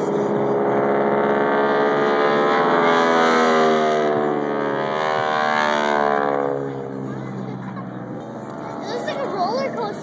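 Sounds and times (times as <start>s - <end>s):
propeller airplane engine passing: 0.0s - 10.0s.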